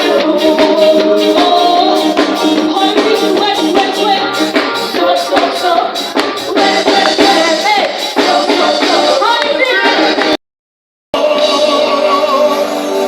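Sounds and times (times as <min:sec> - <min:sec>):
group singing: 0:00.0 - 0:10.4, 0:11.2 - 0:13.0.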